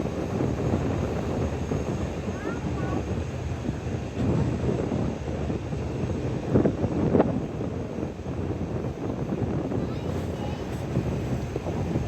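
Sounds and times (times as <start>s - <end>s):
ferry engine rumbling: 0.0s - 12.0s
wind buffeting microphone: 0.0s - 12.0s.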